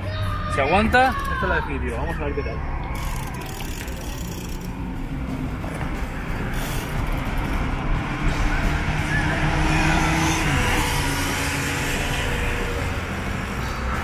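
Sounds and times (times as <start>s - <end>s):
city road traffic: 0.0s - 14.0s.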